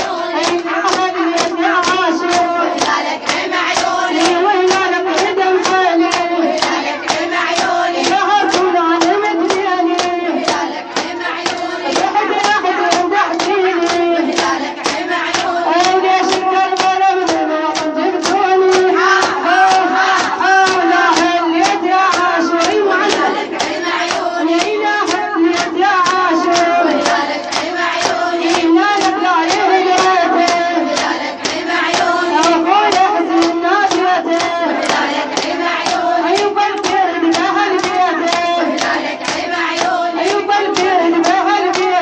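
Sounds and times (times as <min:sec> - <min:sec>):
rhythmic hand-beating: 0:00.0 - 0:42.0
woman chanting a lament: 0:00.0 - 0:42.0.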